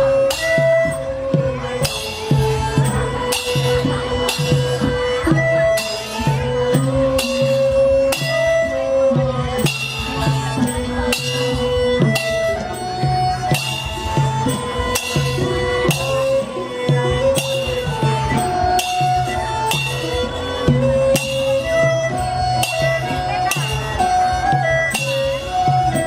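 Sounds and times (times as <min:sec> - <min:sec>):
held-note melody: 0:00.0 - 0:26.0
steady drum beat: 0:00.0 - 0:26.0.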